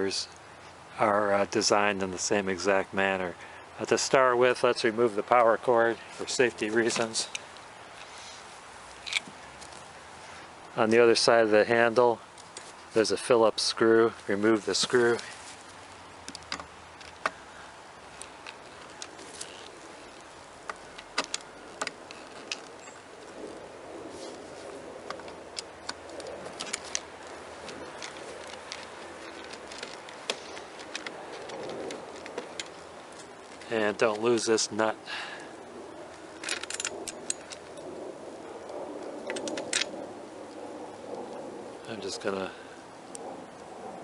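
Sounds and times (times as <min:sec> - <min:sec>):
faint background hiss: 0:00.0 - 0:44.0.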